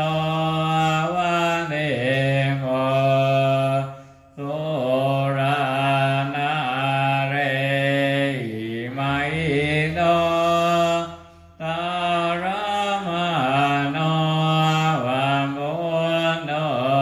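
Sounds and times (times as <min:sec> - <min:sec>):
man chanting in low voice: 0:00.0 - 0:17.0.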